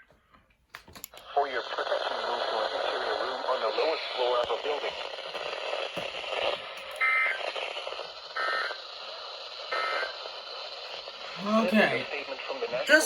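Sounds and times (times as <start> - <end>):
radio hiss: 1.2 - 13.0.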